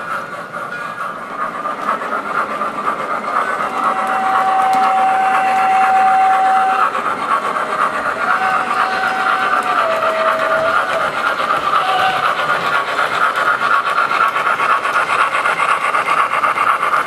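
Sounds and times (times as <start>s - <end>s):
electronic steam chuffing: 0.0s - 17.0s
model train rolling on track: 0.0s - 17.0s.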